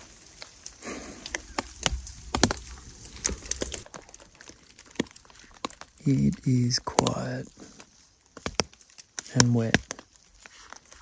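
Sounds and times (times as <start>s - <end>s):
rain dripping on a tarp: 0.0s - 11.0s.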